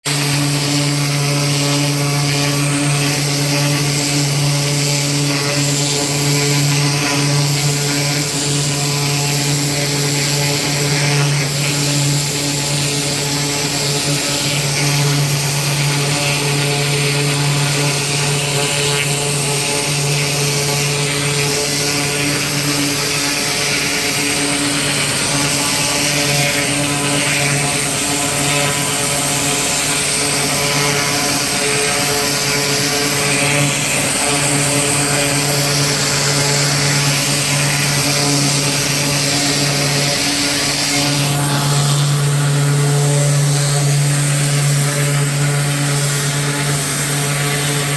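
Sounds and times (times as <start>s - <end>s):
pressure washer engine running: 0.1s - 47.9s.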